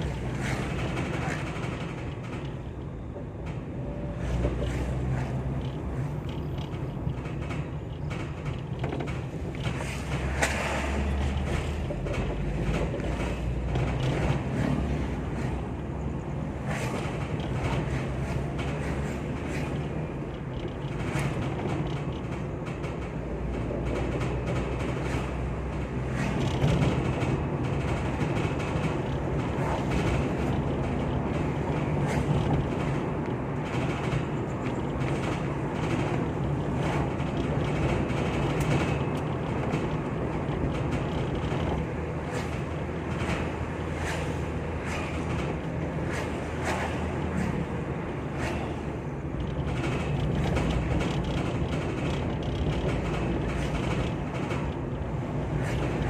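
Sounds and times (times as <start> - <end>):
metal knocks and creaks: 0.0 - 56.0
vehicle engine and road rumble: 0.0 - 56.0.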